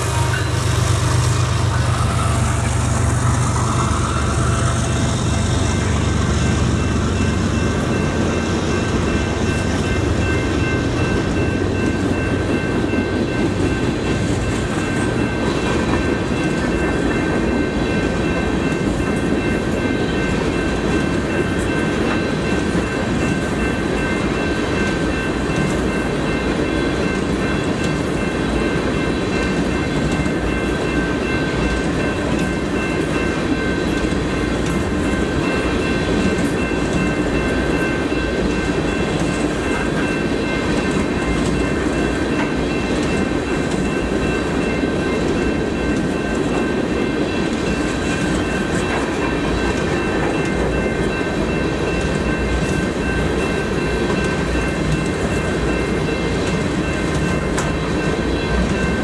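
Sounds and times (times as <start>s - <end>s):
freight train rumbling past: 0.0s - 59.0s
high ringing tones: 0.0s - 59.0s.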